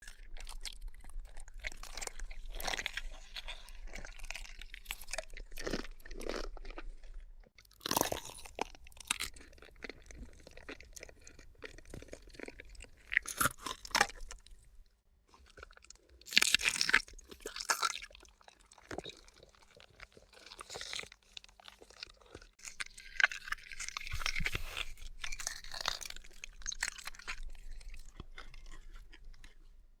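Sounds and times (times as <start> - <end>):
monster chewing and crunching: 0.0 - 14.6, 15.4 - 29.8
bone crunching and tearing: 0.1 - 14.6, 15.5 - 29.7.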